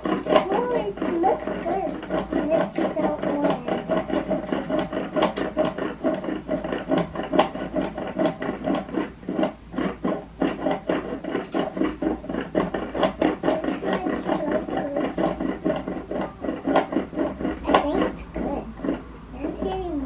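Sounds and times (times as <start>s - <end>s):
toy blender plastic rubbing and clattering: 0.0s - 20.0s.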